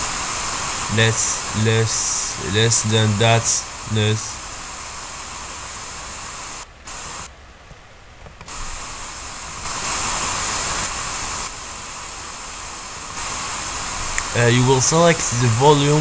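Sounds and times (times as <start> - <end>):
steady hiss noise: 0.0 - 16.0.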